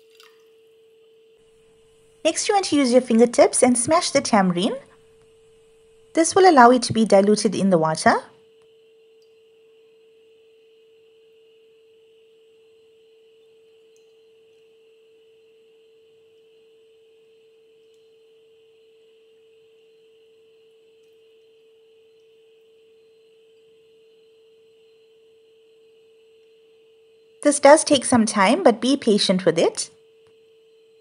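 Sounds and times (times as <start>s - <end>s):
faint steady hum: 0.0s - 31.0s
faint high whine: 0.3s - 31.0s.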